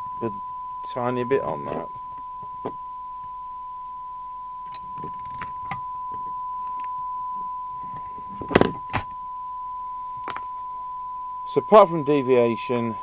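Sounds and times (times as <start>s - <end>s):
steady test tone: 0.0s - 13.0s.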